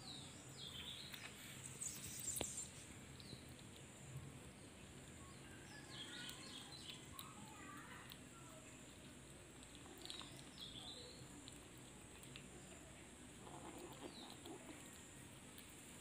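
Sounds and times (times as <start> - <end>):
small birds chirping: 0.0 - 16.0
kitten gnawing on bone: 0.6 - 16.0.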